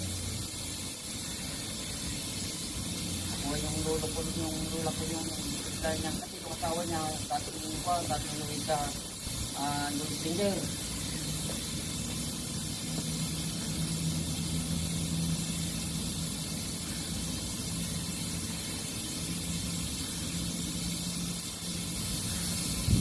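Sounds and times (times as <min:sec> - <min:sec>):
low electrical hum: 0:00.0 - 0:23.0
welding arc hiss: 0:00.0 - 0:23.0.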